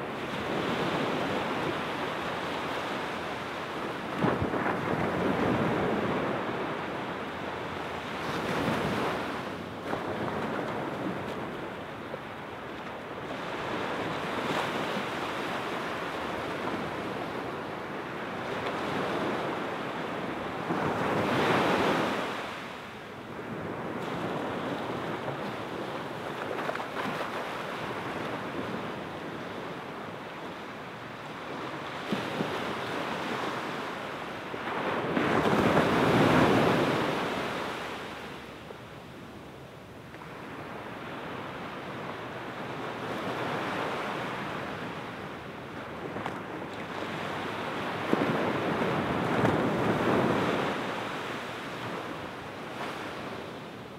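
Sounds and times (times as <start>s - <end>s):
waves washing onto sandy beach: 0.0s - 53.9s.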